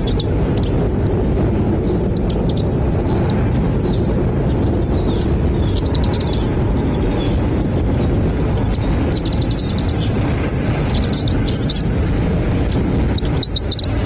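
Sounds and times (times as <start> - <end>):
small bird chirps: 0.0 - 12.1, 13.1 - 14.0
loud steady low rumble: 0.0 - 14.0.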